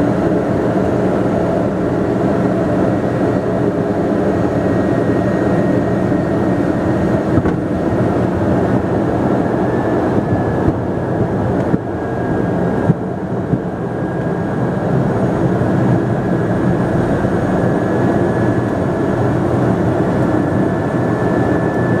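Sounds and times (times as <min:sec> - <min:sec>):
turboprop engine running: 0:00.0 - 0:22.0.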